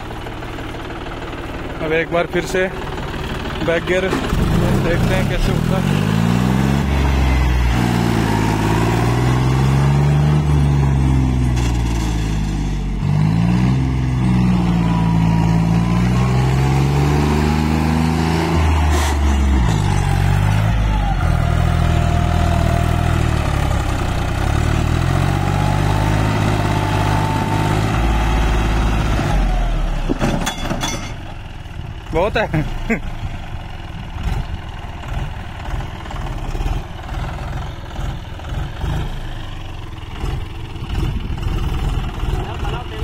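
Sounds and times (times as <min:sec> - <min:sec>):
tractor diesel engine revving: 0:00.0 - 0:43.0.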